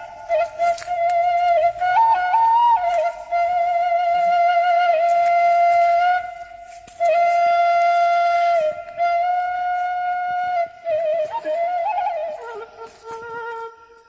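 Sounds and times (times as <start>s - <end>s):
flute melody: 0.0s - 14.0s.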